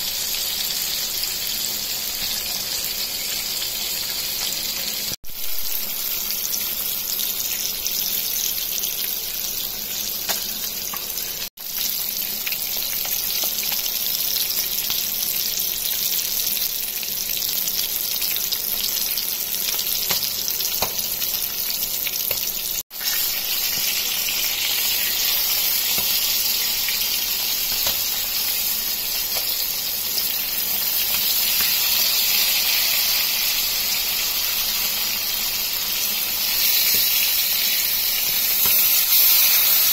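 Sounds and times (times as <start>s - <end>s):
fish sizzling in oil: 0.0s - 39.9s.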